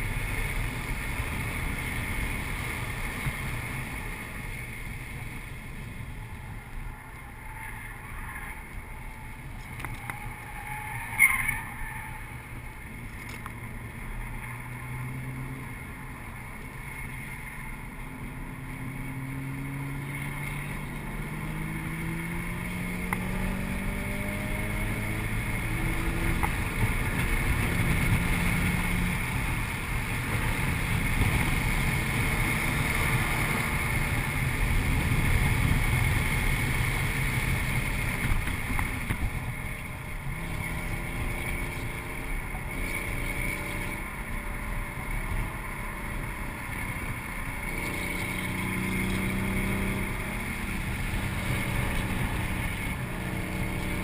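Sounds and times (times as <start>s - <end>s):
car engine accelerating: 0.0s - 54.0s
road and wind noise: 0.0s - 54.0s.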